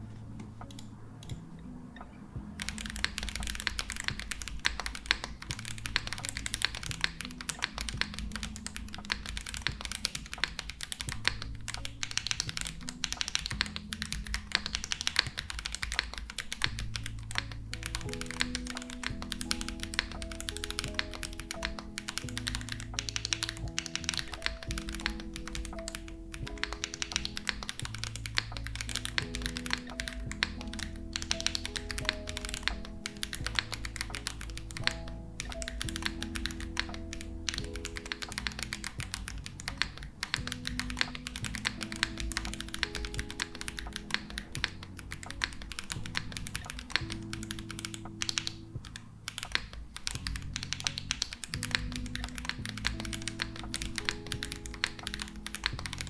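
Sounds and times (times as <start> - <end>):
background music with bass line: 0.0 - 56.0.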